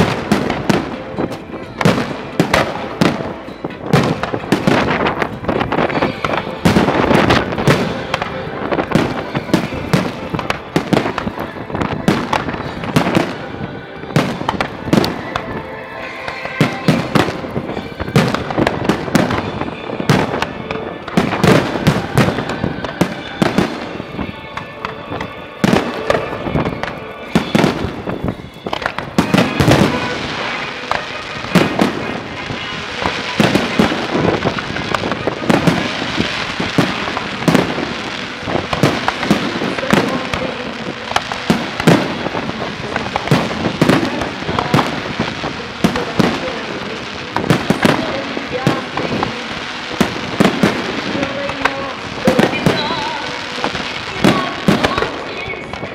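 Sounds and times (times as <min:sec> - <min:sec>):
fireworks bursting: 0:00.0 - 0:55.9.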